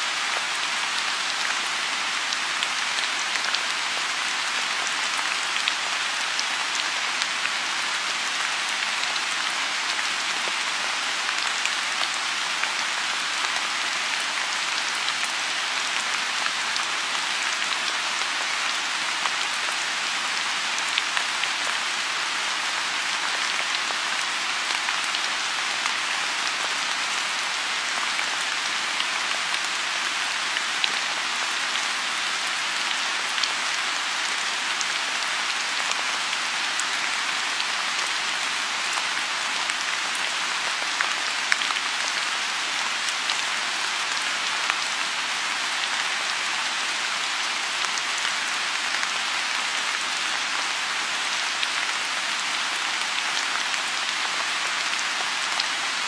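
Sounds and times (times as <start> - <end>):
rain falling on pond: 0.0 - 56.0.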